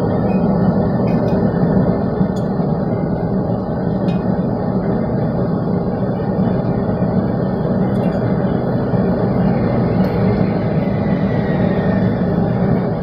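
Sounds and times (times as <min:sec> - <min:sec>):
steady low roar: 0:00.0 - 0:13.0.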